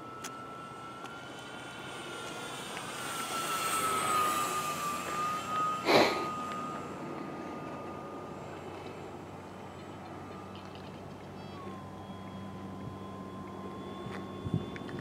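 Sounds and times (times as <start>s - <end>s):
model airplane motor whine: 0.0s - 15.0s.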